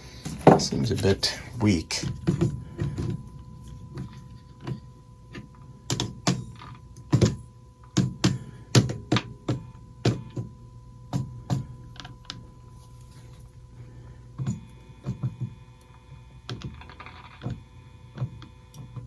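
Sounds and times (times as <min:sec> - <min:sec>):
faint steady tone: 0:01.0 - 0:19.0.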